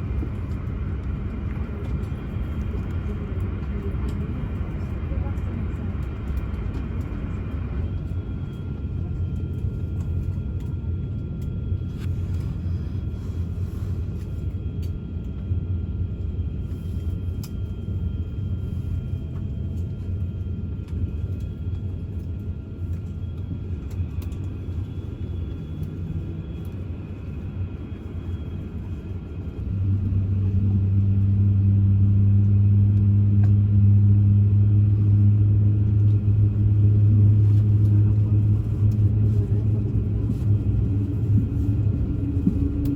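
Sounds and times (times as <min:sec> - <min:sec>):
aircraft engine rumble in cabin: 0:00.0 - 0:42.9.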